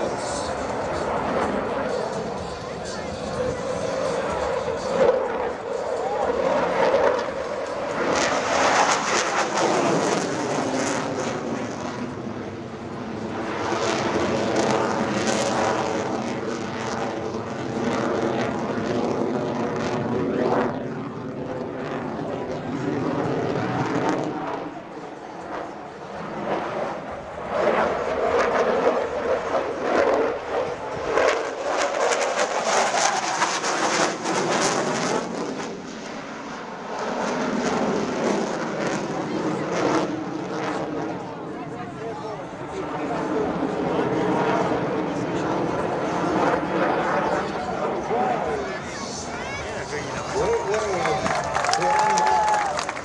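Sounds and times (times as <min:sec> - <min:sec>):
jet engine roaring: 0:00.0 - 0:53.0.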